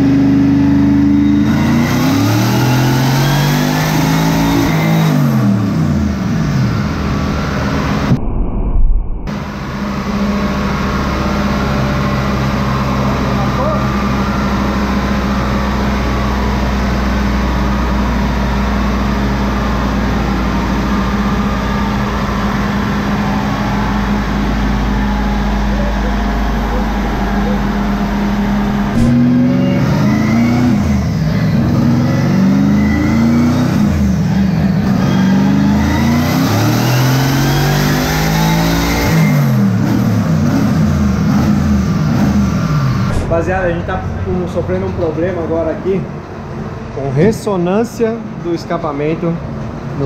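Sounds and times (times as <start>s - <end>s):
car engine idling and revving: 0.0s - 8.2s, 9.3s - 50.0s.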